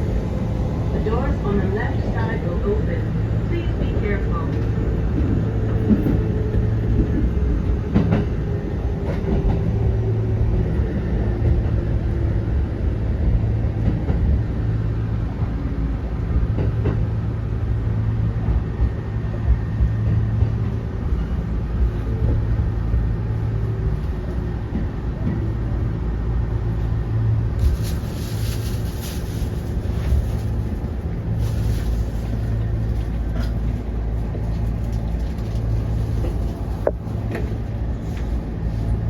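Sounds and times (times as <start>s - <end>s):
train low rumble: 0.0s - 39.0s.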